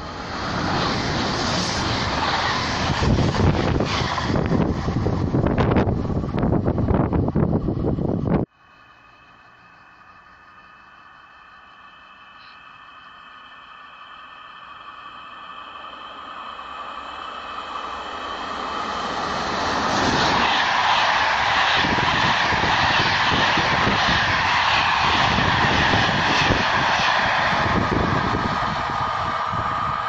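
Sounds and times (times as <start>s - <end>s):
passenger train rushing past: 0.0s - 30.0s.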